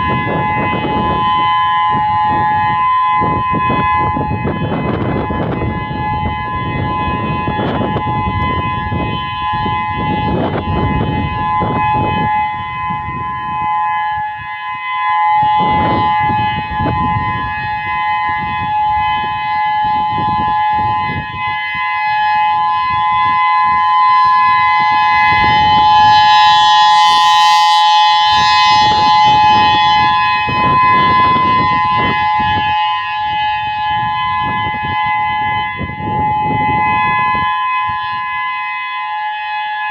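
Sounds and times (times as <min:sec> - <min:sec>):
electronic warning siren tone: 0:00.0 - 0:39.9.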